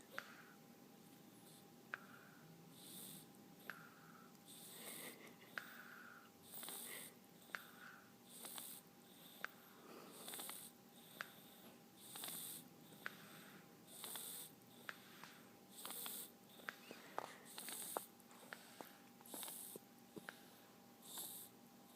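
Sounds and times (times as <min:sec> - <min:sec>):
person snoring softly: 0:01.4 - 0:21.9.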